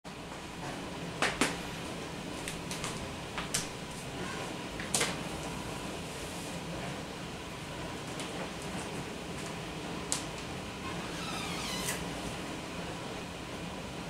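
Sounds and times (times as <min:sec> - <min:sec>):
low room hum: 0:00.1 - 0:14.0.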